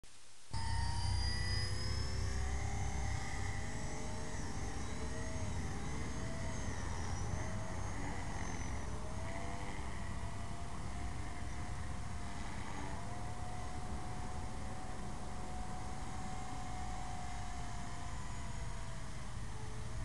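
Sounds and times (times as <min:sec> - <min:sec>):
electric motor whine: 0:00.6 - 0:20.0
helicopter rotor rumble: 0:00.6 - 0:20.0.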